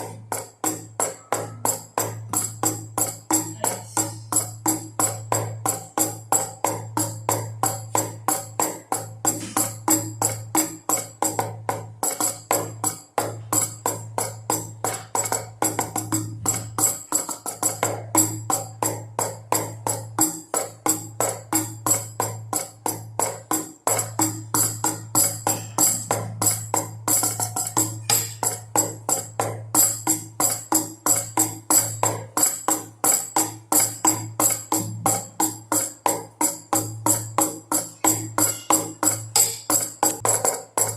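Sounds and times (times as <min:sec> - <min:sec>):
drums beating: 0:00.0 - 0:40.9.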